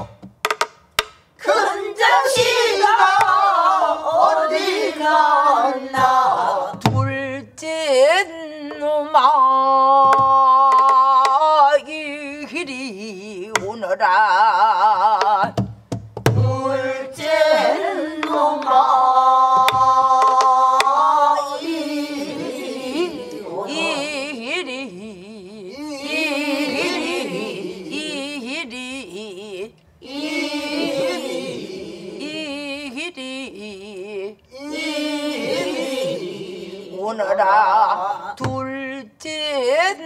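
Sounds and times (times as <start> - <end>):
person singing with wide vibrato: 1.4 - 15.6, 16.4 - 40.0.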